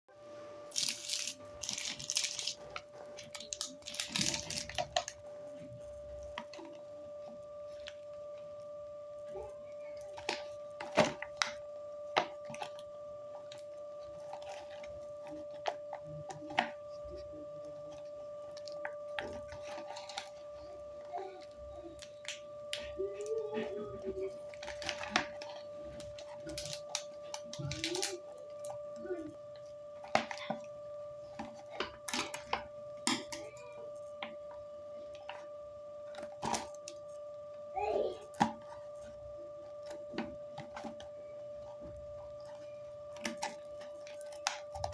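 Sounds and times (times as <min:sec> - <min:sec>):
steady high-pitched tone: 0:00.2 - 0:44.9
gift box packaging clicks and rustles: 0:00.7 - 0:08.6, 0:09.6 - 0:20.7, 0:21.3 - 0:30.7, 0:31.3 - 0:37.2, 0:38.2 - 0:44.9.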